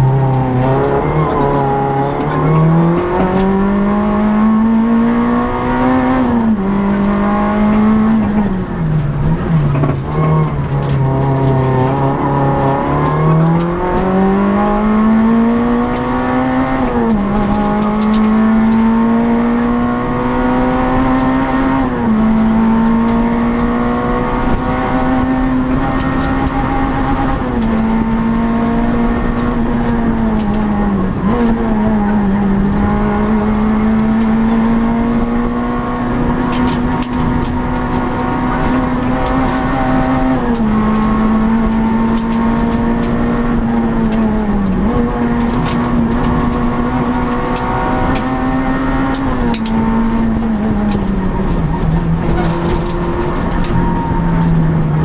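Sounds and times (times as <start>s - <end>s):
rally car engine at full throttle: 0.0s - 55.0s.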